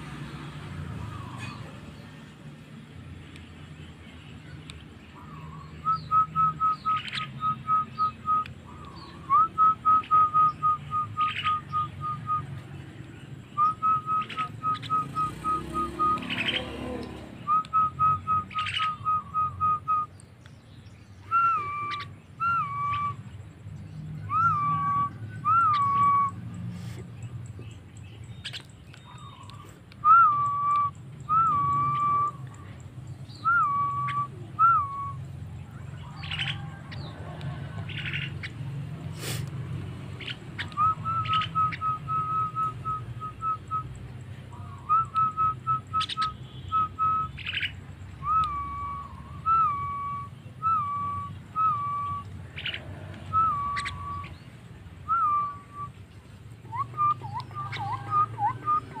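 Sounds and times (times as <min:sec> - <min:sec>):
harsh bird calls: 0:00.0 - 0:59.0.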